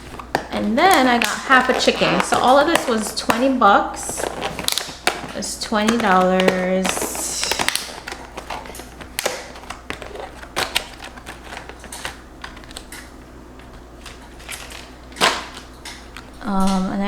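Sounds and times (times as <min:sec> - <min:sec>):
container crinkle: 0:00.0 - 0:16.7
food containers clicking: 0:00.0 - 0:16.8.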